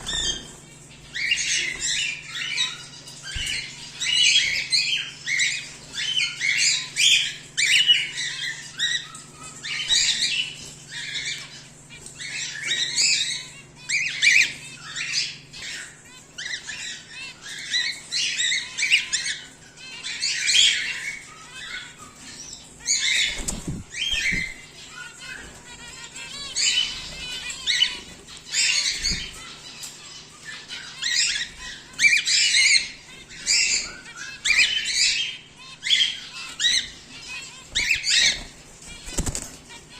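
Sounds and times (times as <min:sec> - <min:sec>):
cockatiels squawking and chirping: 0:00.0 - 0:39.9.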